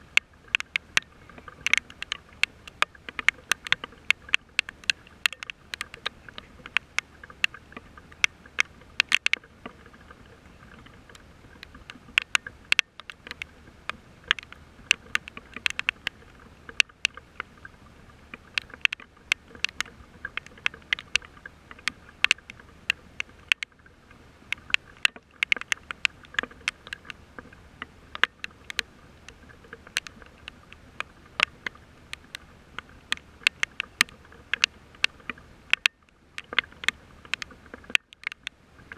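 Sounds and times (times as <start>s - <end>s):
faint steady hiss: 0.0s - 38.9s
raindrops tapping: 0.0s - 38.9s.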